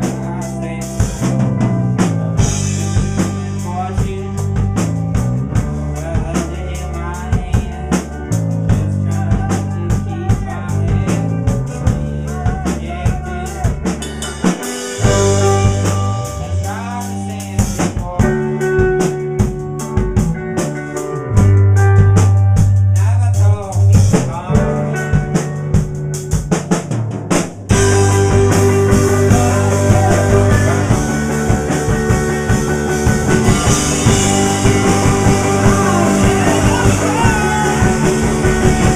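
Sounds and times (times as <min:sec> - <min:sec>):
drum kit hitting busily: 0:00.0 - 0:38.9
live rock band playing: 0:00.0 - 0:38.9.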